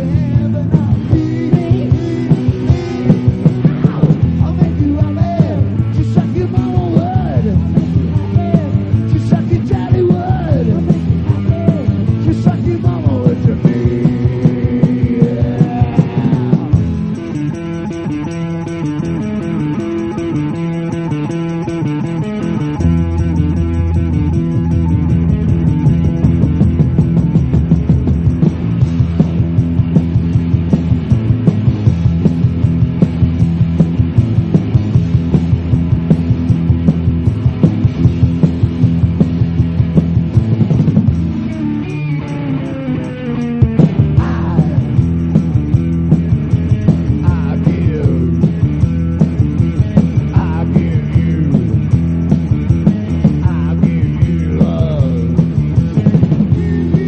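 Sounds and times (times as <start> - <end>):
drum beat: 0.0 - 17.5, 22.8 - 41.6, 43.4 - 57.0
bass guitar: 0.0 - 57.0
electric guitars: 0.0 - 57.0.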